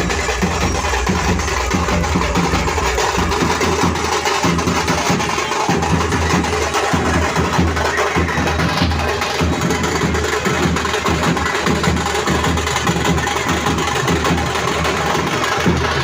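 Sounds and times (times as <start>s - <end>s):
drum and bass dance music: 0.0s - 16.0s.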